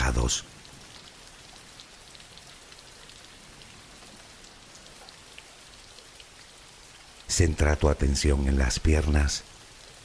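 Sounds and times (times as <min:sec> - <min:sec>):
soft rain falling: 0:00.0 - 0:10.0.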